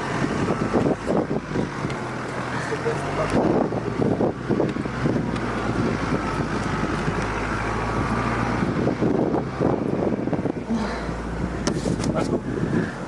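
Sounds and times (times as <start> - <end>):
vehicle engine running slowly: 0.0 - 13.0.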